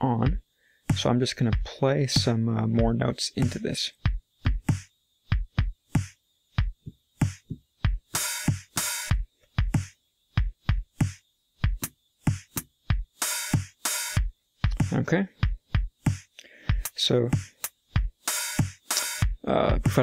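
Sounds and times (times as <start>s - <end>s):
drum machine loop: 0.0s - 20.0s.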